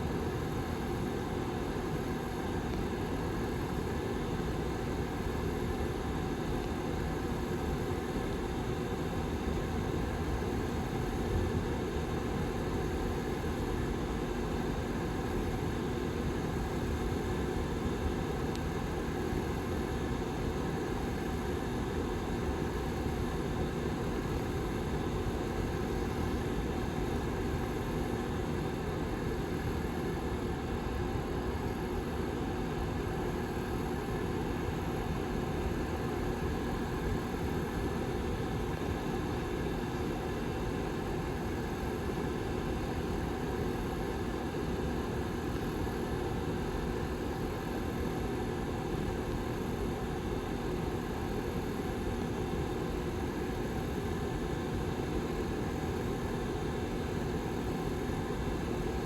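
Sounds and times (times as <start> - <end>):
heater fan whooshing: 0.0 - 59.0.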